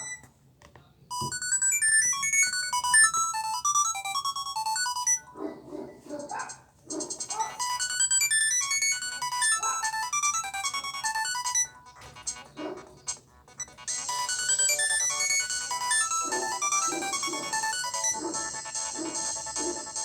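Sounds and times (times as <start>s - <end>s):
electronic phone ringtone melody: 0.0s - 0.2s, 1.1s - 5.4s, 7.4s - 20.0s.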